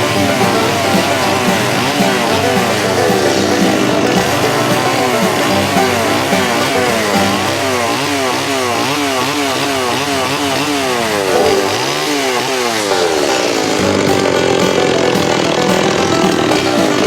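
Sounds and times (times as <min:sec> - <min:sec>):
chainsaw revving carving wood: 0:00.0 - 0:17.0.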